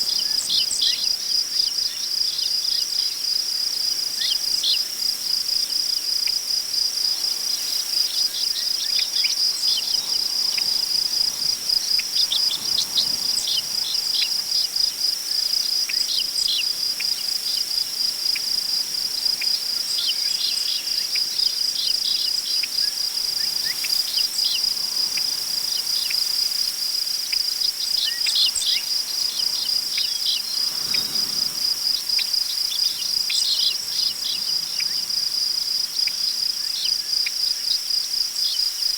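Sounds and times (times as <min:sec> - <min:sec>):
crickets chirping: 0:00.0 - 0:38.9
wind in tall grass: 0:00.0 - 0:38.9.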